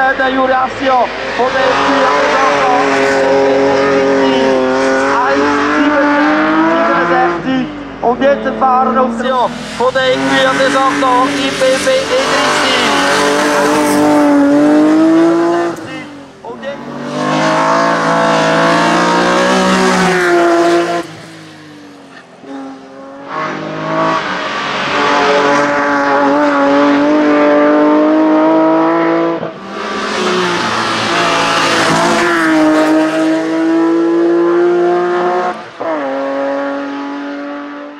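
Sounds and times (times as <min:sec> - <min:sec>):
race car engine revving hard: 0:00.0 - 0:37.9.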